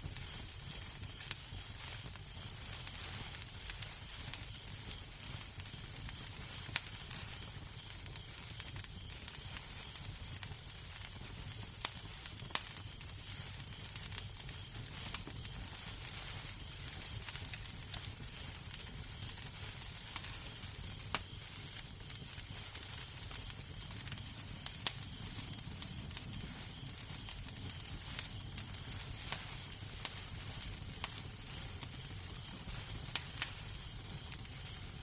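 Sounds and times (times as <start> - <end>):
fire hiss and rumble: 0.0 - 35.0
fire pops and snaps: 0.0 - 35.0.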